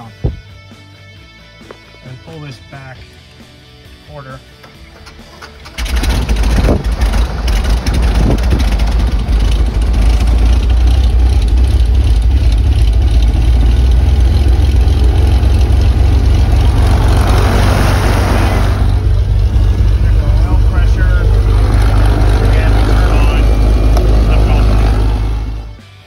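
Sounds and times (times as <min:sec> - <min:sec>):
aircraft engine idling: 0:04.6 - 0:25.8.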